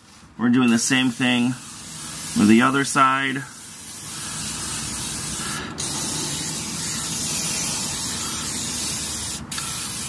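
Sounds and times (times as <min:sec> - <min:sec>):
aerosol spray can hissing: 0:00.0 - 0:10.0.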